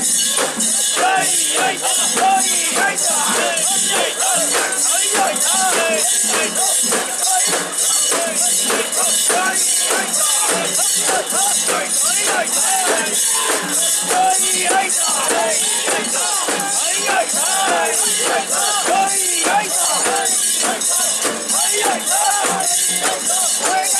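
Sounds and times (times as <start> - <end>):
people chanting: 0.0 - 23.9
metal rings jangling: 0.9 - 23.9.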